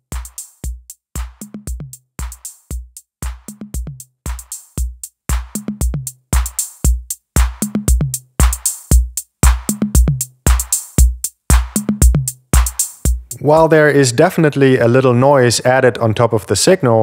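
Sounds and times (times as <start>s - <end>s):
compressed drum machine beat: 0.0s - 13.9s.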